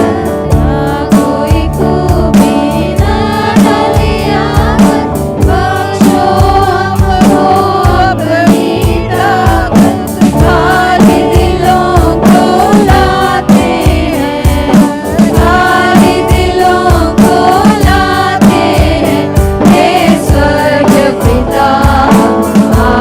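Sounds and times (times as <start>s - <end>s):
band with drum beat: 0.0s - 23.0s
voices singing together: 0.0s - 23.0s.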